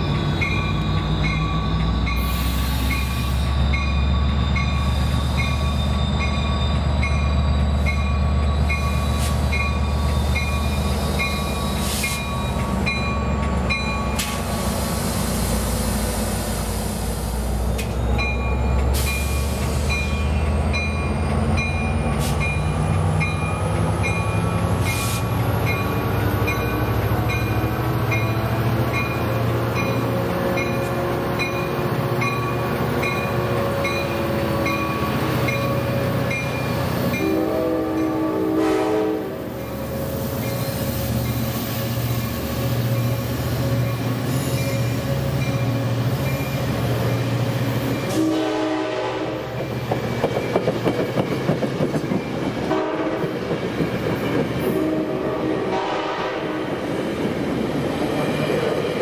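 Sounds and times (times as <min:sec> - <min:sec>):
diesel locomotive engine: 0:00.0 - 0:59.0.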